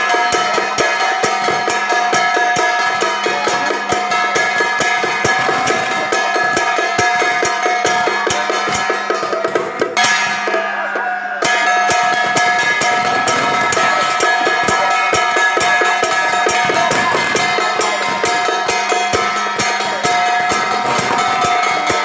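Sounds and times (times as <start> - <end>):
fast drum strokes: 0.0 - 22.0
gongs and cymbals ringing: 0.0 - 22.0.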